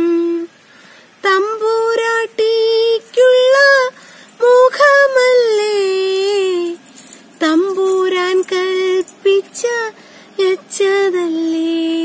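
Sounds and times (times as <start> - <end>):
woman singing slow melodic chant: 0.0 - 0.6, 1.2 - 12.0.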